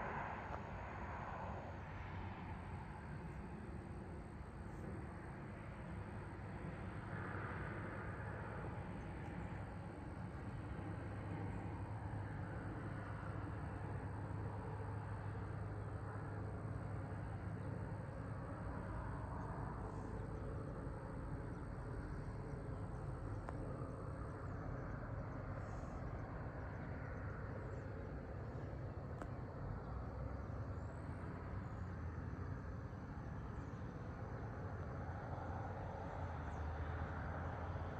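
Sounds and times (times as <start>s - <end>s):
distant engine rumble: 0.0s - 37.9s.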